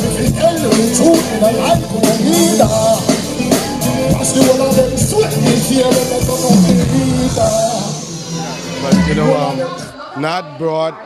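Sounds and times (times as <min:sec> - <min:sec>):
steady drum beat: 0:00.0 - 0:09.9
band music: 0:00.0 - 0:10.4.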